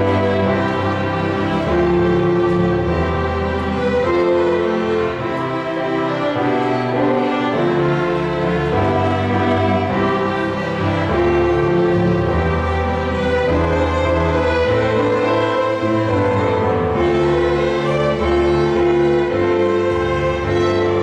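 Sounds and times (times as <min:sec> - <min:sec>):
digital piano playing: 0:00.0 - 0:21.0
violins playing: 0:00.0 - 0:21.0.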